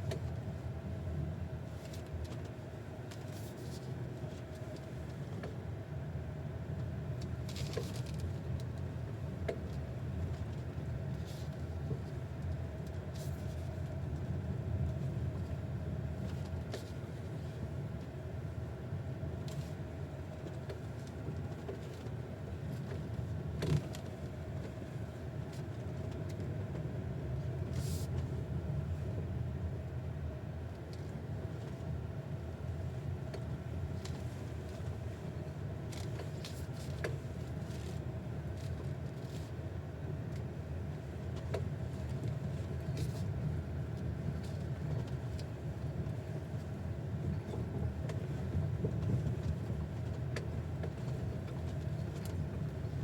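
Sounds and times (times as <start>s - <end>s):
car cabin road rumble: 7.0s - 53.0s.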